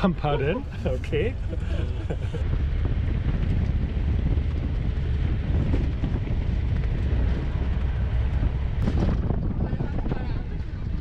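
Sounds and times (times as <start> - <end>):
vehicle road rumble: 0.0 - 11.0
wind buffeting microphone: 0.0 - 11.0.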